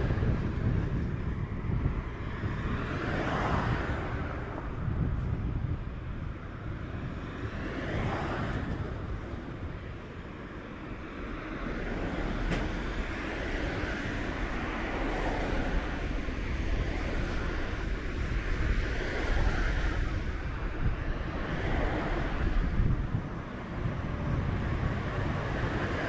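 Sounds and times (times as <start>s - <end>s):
cars passing: 0.0s - 26.0s
wind rumble on microphone: 0.0s - 26.0s.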